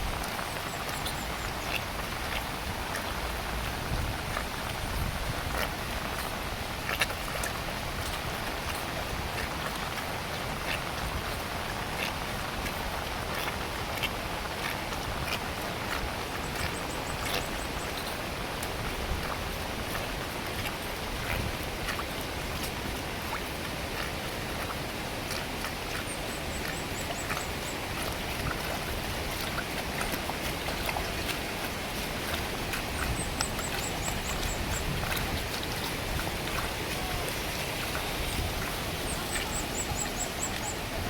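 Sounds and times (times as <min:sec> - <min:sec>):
heavy rain: 0:07.5 - 0:25.7, 0:26.3 - 0:41.0.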